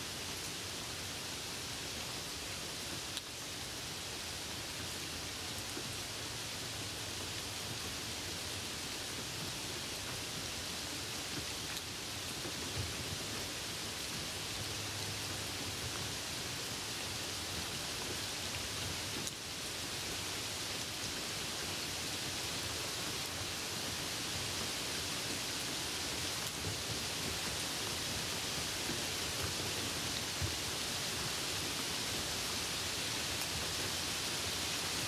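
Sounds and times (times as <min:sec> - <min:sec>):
rain on a moving car: 0:00.0 - 0:35.0.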